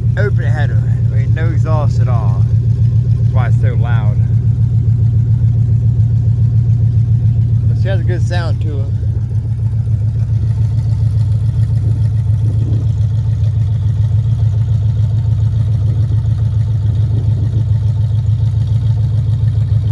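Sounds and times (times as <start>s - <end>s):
loud engine idling: 0.0s - 19.9s.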